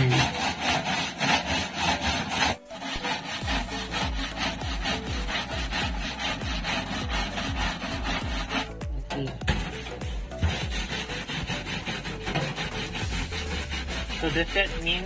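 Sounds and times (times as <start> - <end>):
bristle brush scrubbing plastic: 0.0 - 8.8, 9.5 - 15.0.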